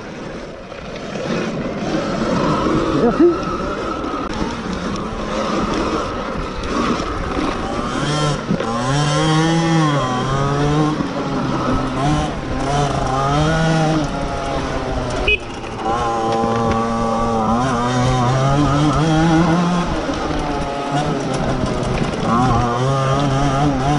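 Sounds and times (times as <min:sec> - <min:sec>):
rushing wind: 0:00.0 - 0:23.9.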